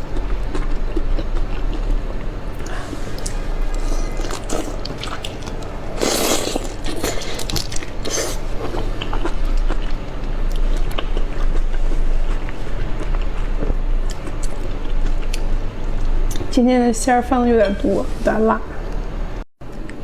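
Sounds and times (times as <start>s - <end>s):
chewing prawn shell crackles: 0.0s - 16.5s.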